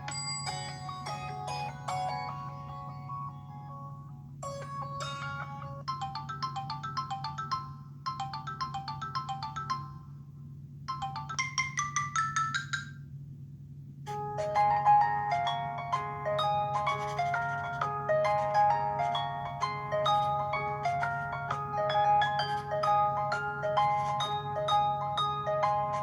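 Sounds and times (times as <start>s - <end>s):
phone ringtone melody: 0.0s - 3.4s, 4.4s - 10.1s, 10.9s - 12.9s, 14.1s - 26.0s.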